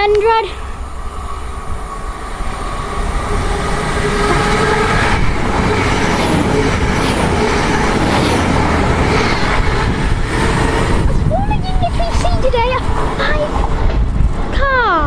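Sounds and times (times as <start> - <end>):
train passing fast: 0.0 - 15.0.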